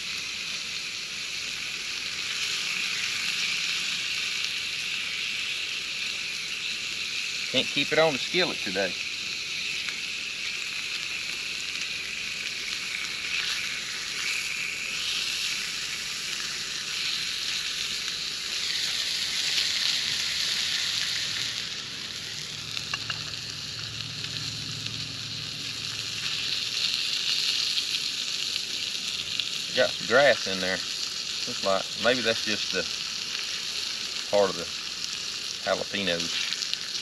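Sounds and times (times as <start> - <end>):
fish sizzling in a skillet: 0.0 - 37.0.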